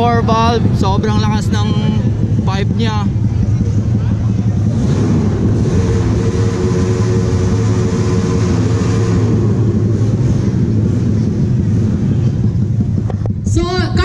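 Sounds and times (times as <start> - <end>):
motorcycle revving loudly: 0.0 - 14.0.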